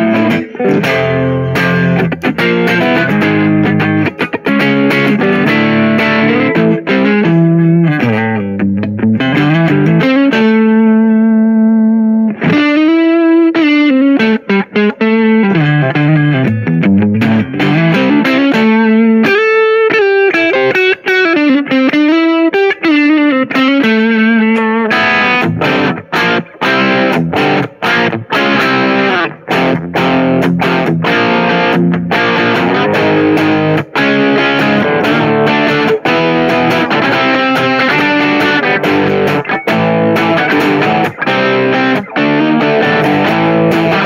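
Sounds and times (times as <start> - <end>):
electric guitar lead lines: 0.0 - 44.0.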